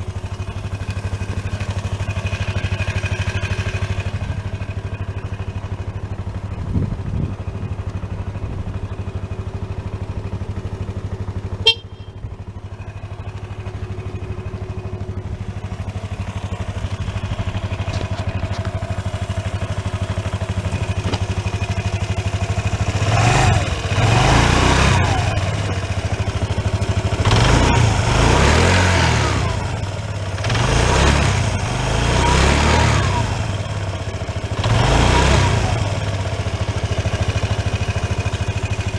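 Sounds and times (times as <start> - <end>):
scooter engine idling and revving: 0.0 - 38.9.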